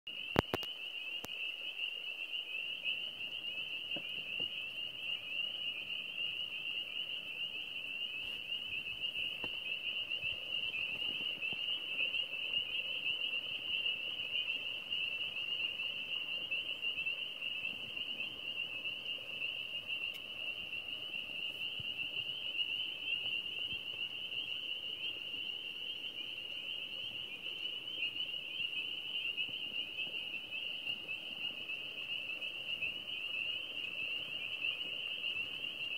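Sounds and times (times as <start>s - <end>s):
chorus of frogs calling: 0.1s - 35.9s.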